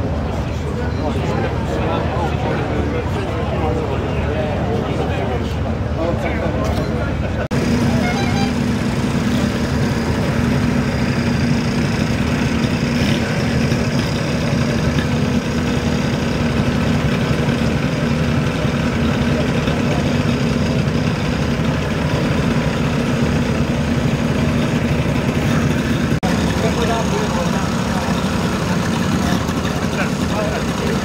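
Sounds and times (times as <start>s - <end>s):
vehicle engines idling: 0.0s - 31.0s.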